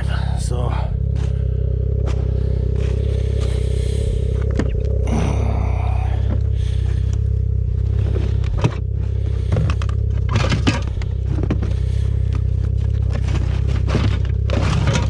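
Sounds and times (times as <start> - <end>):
snowmobile engine idling: 0.0 - 15.0
scraping crackling knocks: 1.1 - 5.1, 6.2 - 15.0.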